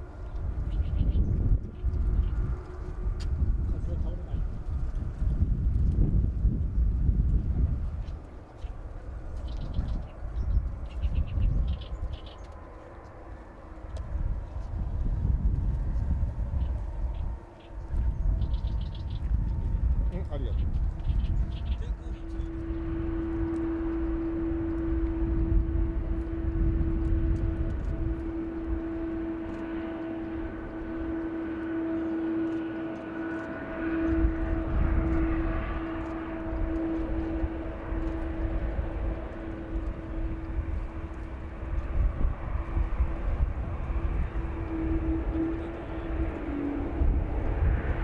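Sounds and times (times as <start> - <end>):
distant jet engines whining: 0.0 - 48.0
wind buffeting microphone: 0.0 - 48.0.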